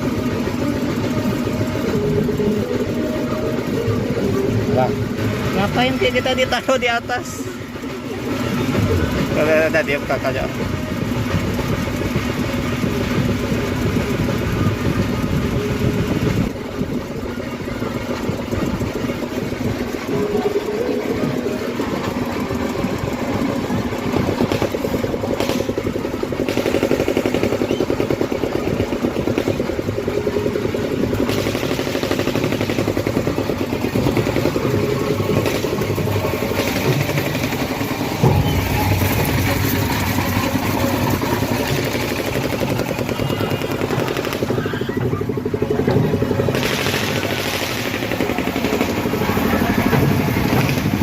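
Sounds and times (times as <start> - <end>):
engine running with fast pulse: 0.0 - 51.0.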